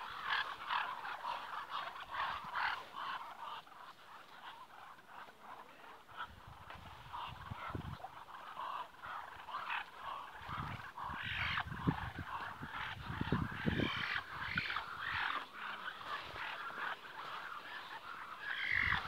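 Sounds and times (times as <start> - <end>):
ducks chirping trills: 0.0 - 19.0.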